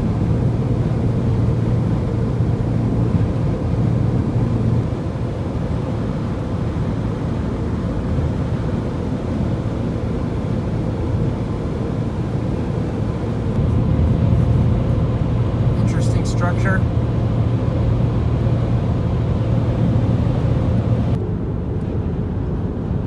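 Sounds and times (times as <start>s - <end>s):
car engine hum: 0.0s - 23.0s
road rumble: 0.0s - 23.0s.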